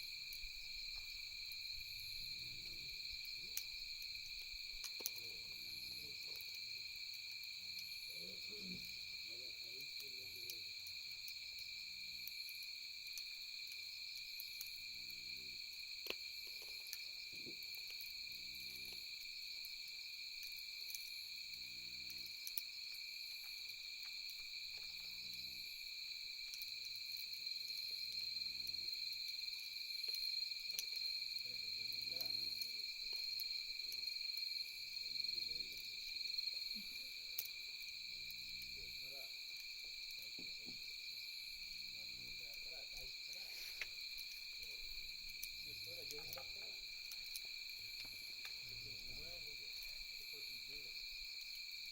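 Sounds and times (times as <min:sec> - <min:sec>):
campfire crackles: 0:00.0 - 0:51.9
night insects chirring: 0:00.0 - 0:51.9.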